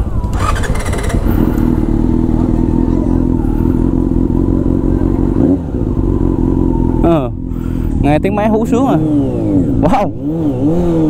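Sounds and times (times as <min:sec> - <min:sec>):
motorcycle engine howling: 0:00.0 - 0:11.0.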